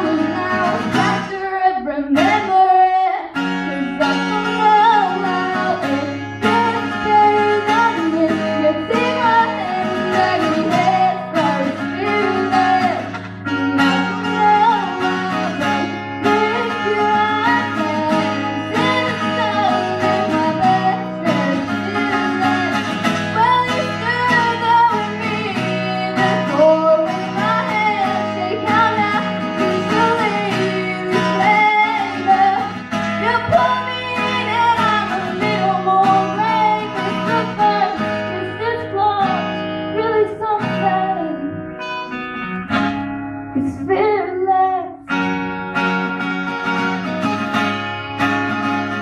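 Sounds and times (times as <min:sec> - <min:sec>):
woman singing into a microphone: 0:00.0 - 0:41.9, 0:43.5 - 0:49.0
acoustic guitar strumming: 0:00.0 - 0:49.0.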